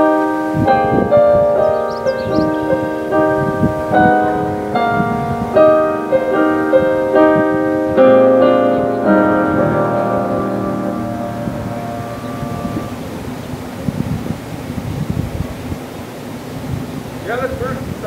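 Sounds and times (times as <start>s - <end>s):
gentle piano piece: 0.0s - 14.9s.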